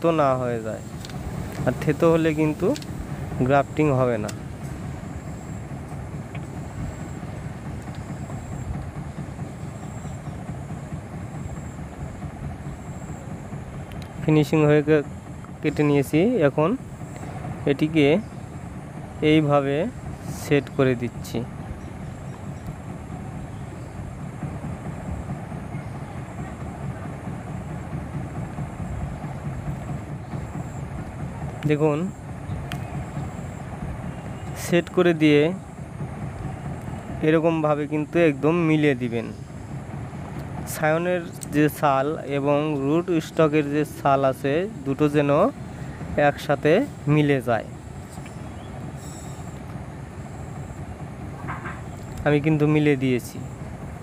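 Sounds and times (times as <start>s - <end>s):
faint high whine: 0.0s - 54.0s
low rumbling background noise: 0.0s - 54.0s.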